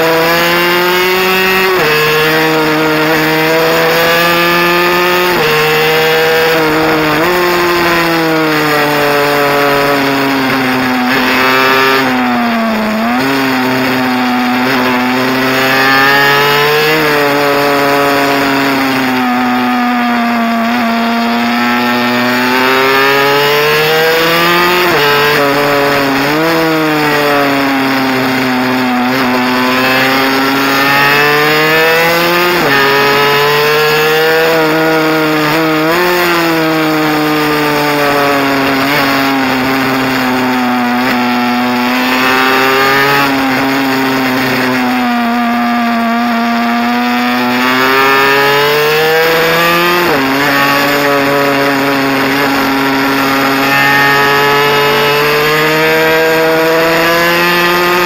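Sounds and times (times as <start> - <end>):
mini bike engine revving: 0.0 - 58.0.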